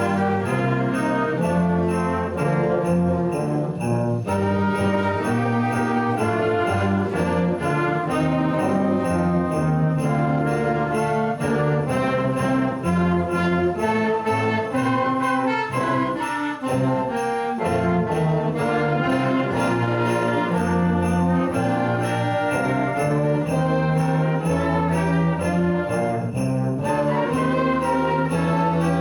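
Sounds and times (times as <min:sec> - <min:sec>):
instrumental christmas music with brass: 0:00.0 - 0:29.0
sleigh bells jingling: 0:00.0 - 0:29.0.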